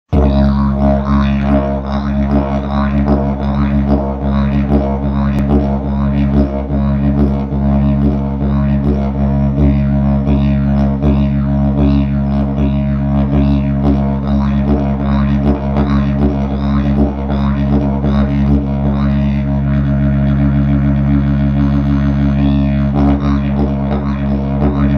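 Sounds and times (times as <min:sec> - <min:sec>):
didgeridoo drone: 0:00.1 - 0:24.9.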